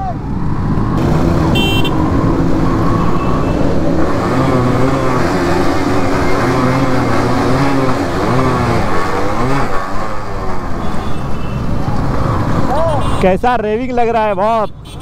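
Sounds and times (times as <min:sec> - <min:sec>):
motorcycle engine revving: 0:00.6 - 0:12.8.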